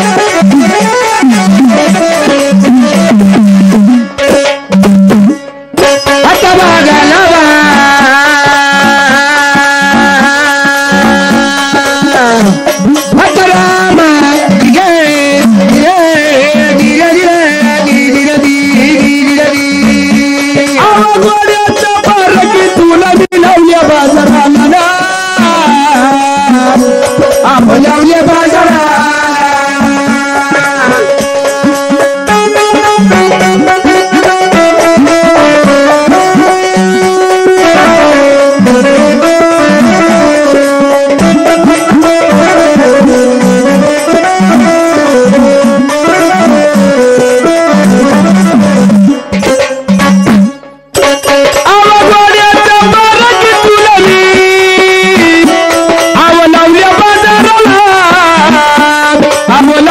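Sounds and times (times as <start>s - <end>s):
drum strokes: 0.0s - 59.9s.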